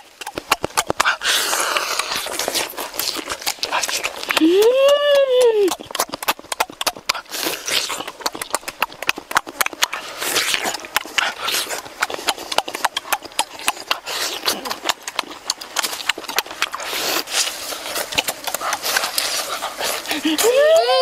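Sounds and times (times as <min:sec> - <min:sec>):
wet lip smacking and slurping: 0:00.0 - 0:20.4.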